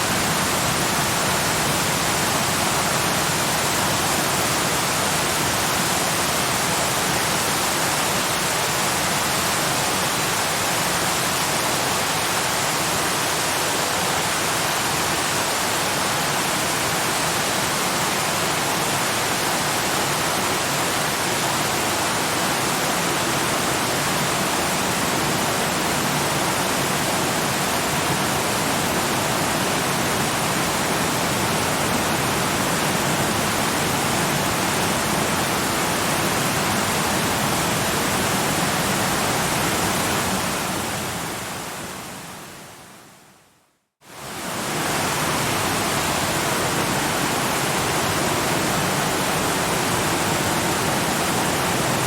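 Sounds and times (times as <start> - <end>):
waterfall roaring: 0.0 - 42.8, 44.1 - 52.0.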